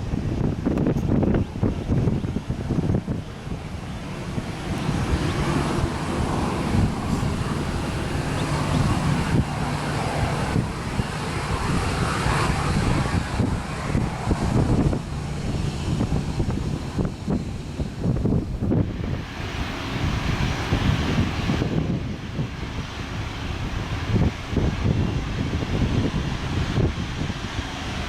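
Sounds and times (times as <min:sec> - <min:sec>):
airliner engines running: 0:00.0 - 0:28.0.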